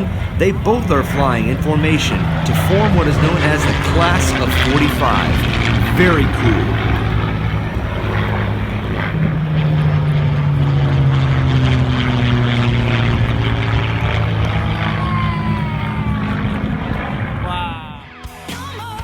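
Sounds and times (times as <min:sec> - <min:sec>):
piston aircraft engines droning: 0:00.0 - 0:18.8.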